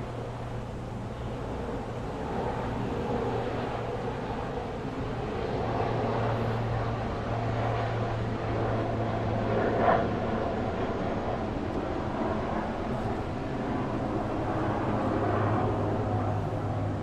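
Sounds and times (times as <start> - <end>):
rumbling background noise: 0.0 - 17.0.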